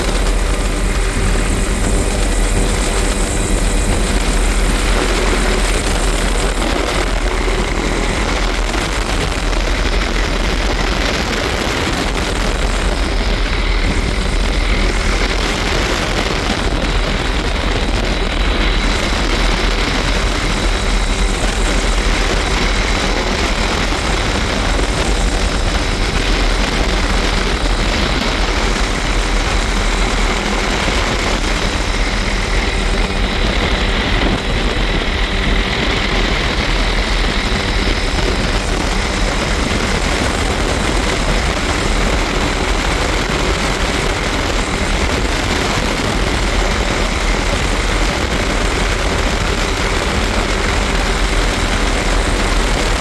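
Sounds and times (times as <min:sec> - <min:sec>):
helicopter rotor and turbine: 0:00.0 - 0:53.0
thin steady whine: 0:00.0 - 0:53.0
wind rushing through cabin: 0:00.0 - 0:53.0.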